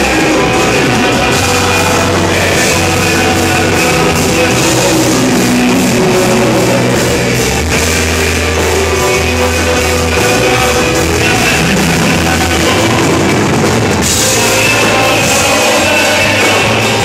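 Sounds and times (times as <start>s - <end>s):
backing band playing: 0.0s - 17.0s
low bass notes: 0.0s - 17.0s
man singing into microphone: 0.0s - 17.0s.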